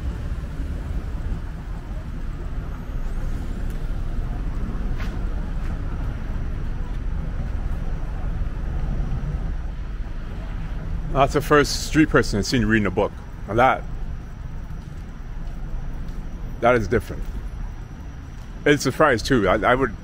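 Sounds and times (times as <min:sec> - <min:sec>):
streetcar rumbling: 0:00.0 - 0:20.0.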